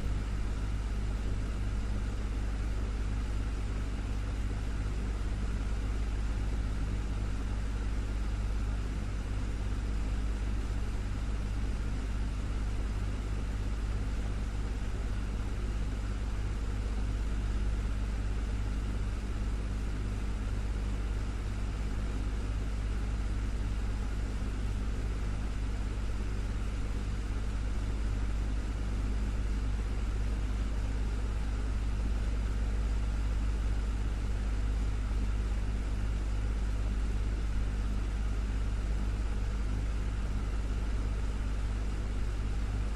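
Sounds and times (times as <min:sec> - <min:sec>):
desktop fan running: 0:00.0 - 0:42.9.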